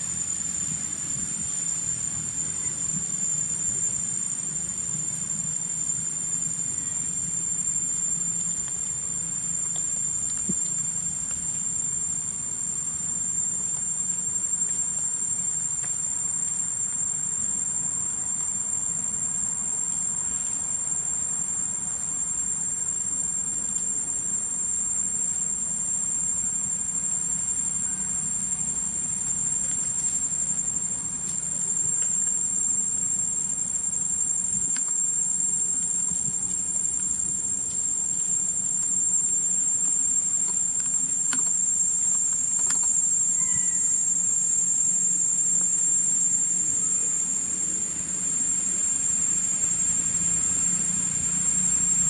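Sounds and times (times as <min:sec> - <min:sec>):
shrill insect drone: 0:00.0 - 0:52.0.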